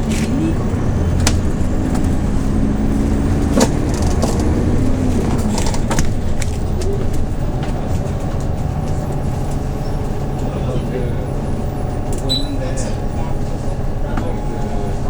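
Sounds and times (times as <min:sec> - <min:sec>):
bus engine running: 0:00.0 - 0:15.0
rattles and clicks from bus body: 0:00.0 - 0:15.0.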